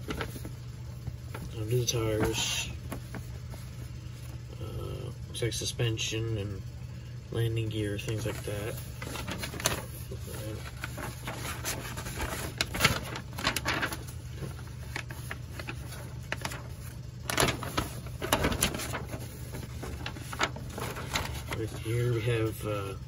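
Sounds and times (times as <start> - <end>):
paper rustling and crinkling: 0.0 - 4.6, 7.9 - 22.7
furnace humming: 0.0 - 23.0.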